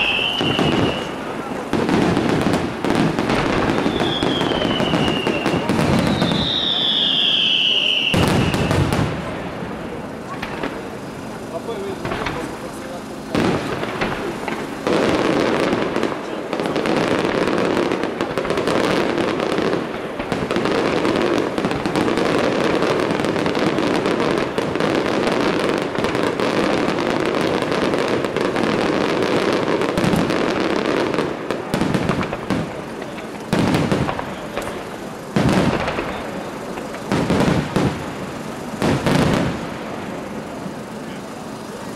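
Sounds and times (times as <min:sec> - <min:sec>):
firework shells bursting: 0:00.0 - 0:41.9
fireworks crackling and popping: 0:00.0 - 0:41.9.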